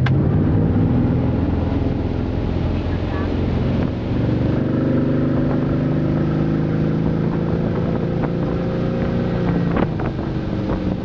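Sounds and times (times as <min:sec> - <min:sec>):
boat engine exhaust: 0:00.0 - 0:11.0.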